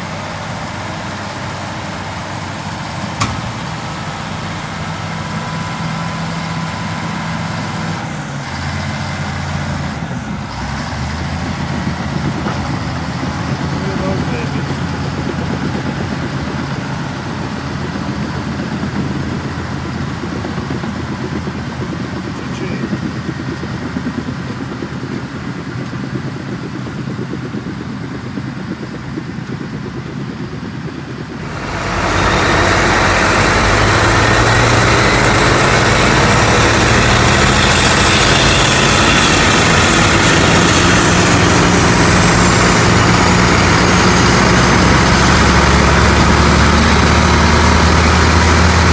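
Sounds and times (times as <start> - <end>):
diesel machinery running: 0.0 - 48.9
loud machine with high whine: 0.0 - 48.9.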